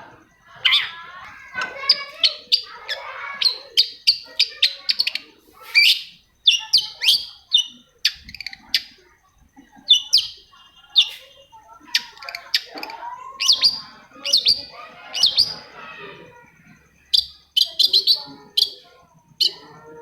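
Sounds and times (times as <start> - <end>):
shrike chirping: 0.1 - 20.0.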